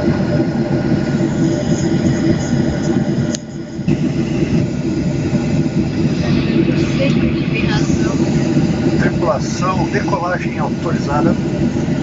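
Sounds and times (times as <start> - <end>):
jet engines droning: 0.0 - 12.0
wheels rumbling on runway: 0.0 - 12.0.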